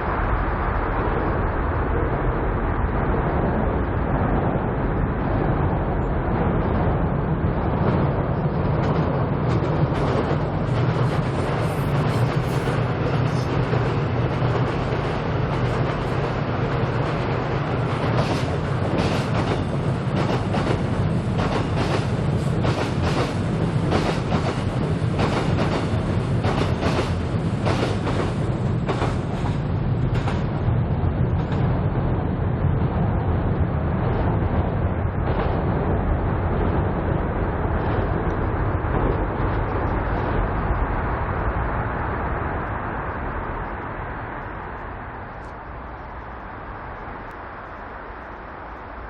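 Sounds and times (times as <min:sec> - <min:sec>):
train low rumble: 0:00.0 - 0:49.0
wheels clickety-clack over rail joints: 0:00.0 - 0:49.0.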